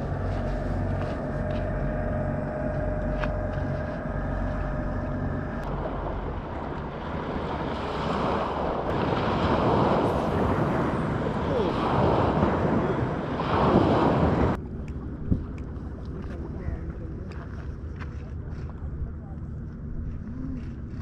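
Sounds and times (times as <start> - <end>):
engine drone: 0.0 - 21.0
wind buffeting microphone: 0.0 - 21.0.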